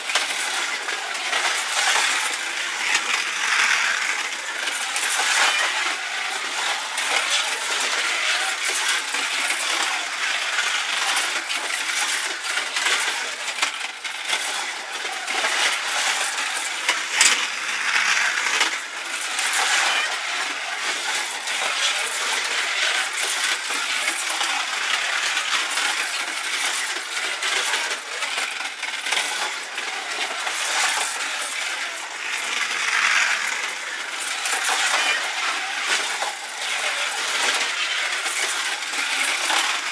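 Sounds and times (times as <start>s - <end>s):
slot cars whirring and rattling: 0.0s - 39.9s.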